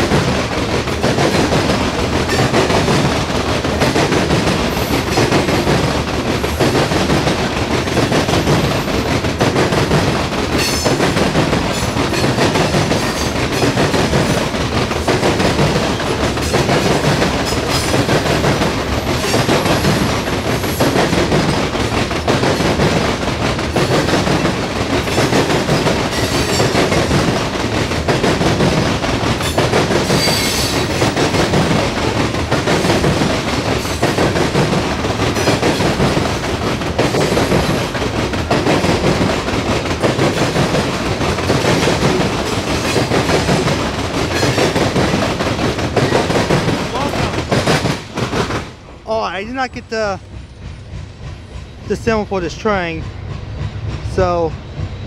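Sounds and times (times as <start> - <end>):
wheels clacking over rail joints: 0.0 - 50.2
rail cars rumbling: 0.0 - 55.0.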